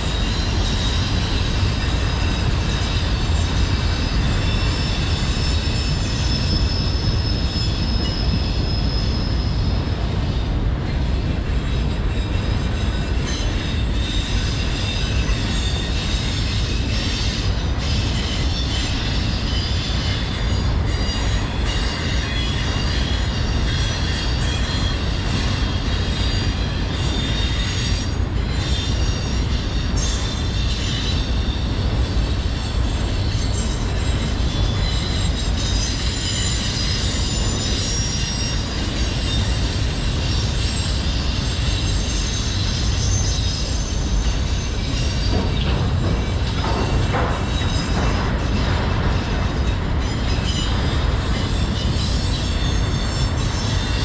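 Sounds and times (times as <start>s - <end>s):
high wheel squeal: 0.0s - 54.0s
rail joints clicking: 0.0s - 54.0s
train wheels rumbling on rail: 0.0s - 54.0s.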